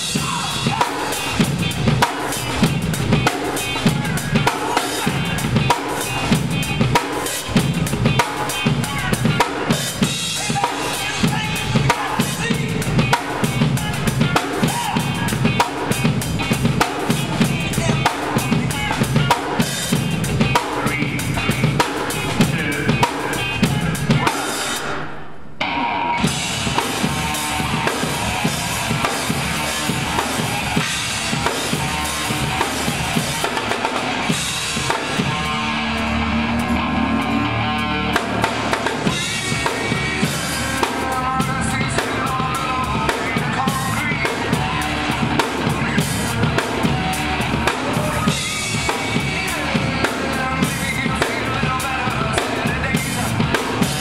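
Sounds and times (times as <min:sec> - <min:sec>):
backing music: 0:00.0 - 0:54.0
drum kit playing fast groove: 0:00.0 - 0:54.0.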